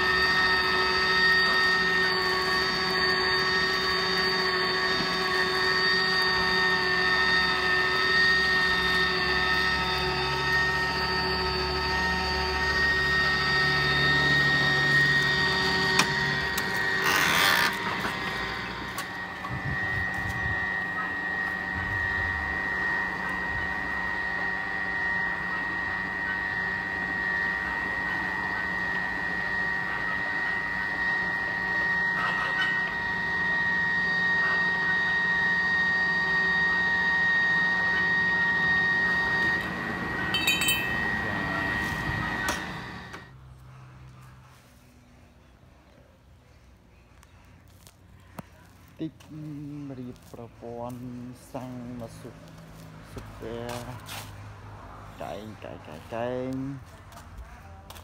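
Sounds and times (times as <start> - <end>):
pipe threading machine whining: 0.0 - 44.2, 47.2 - 58.0.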